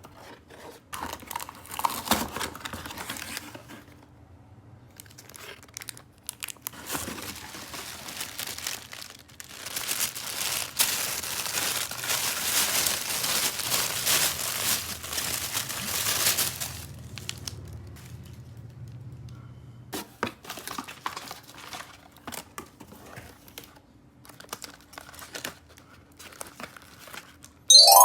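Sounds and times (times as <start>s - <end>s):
plastic packaging crinkling and tearing: 0.2s - 3.8s, 4.9s - 18.4s, 20.5s - 22.4s, 23.4s - 27.6s.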